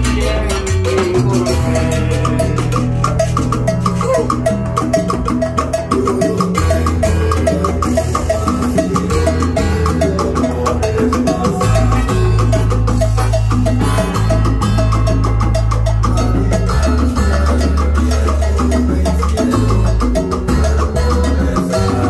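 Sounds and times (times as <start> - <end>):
salsa band playing: 0.0 - 22.0.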